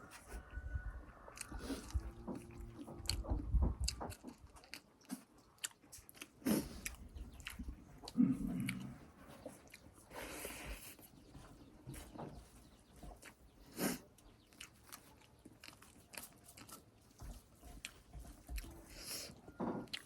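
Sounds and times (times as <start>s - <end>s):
chewing and biting: 1.2s - 11.2s, 12.1s - 20.0s.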